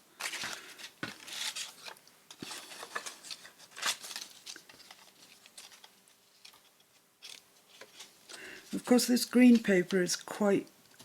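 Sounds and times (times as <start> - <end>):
paper rustling: 0.2 - 10.3.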